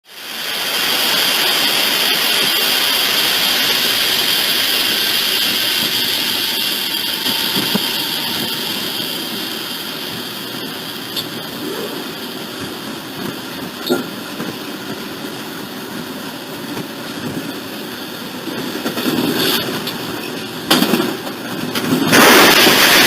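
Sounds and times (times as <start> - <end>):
train running past: 0.1 - 23.0
high whine: 0.3 - 23.0.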